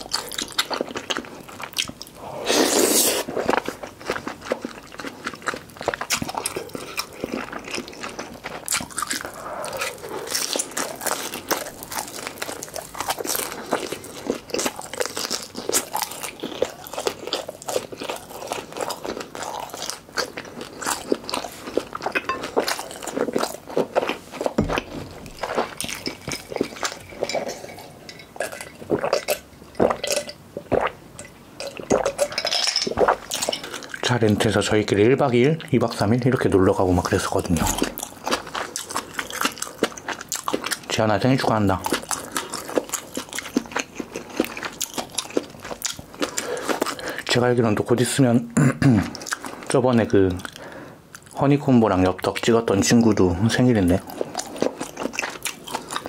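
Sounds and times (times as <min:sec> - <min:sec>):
person chewing food: 0:00.0 - 0:34.2, 0:36.9 - 0:40.9, 0:41.6 - 0:47.3, 0:49.1 - 0:51.4, 0:53.9 - 0:56.0.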